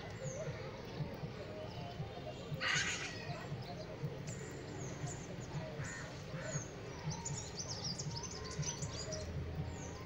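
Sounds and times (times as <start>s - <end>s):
sparrows chirping: 0.0s - 10.0s.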